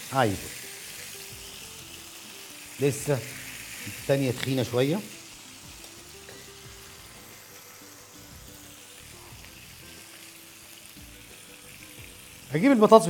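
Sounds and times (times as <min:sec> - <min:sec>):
faint background music: 0:00.0 - 0:13.0
fish sizzling in grill pan: 0:00.0 - 0:13.0.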